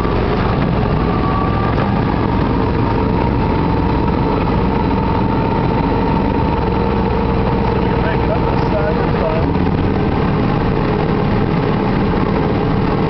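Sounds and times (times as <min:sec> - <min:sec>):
vehicle engine drone with whine: 0:00.0 - 0:13.0.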